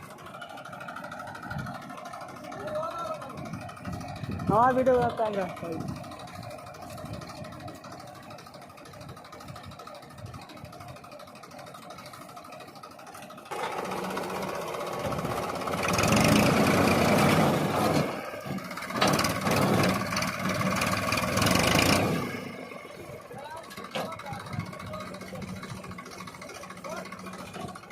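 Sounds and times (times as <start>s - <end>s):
tractor diesel engine revving: 0.0s - 27.9s.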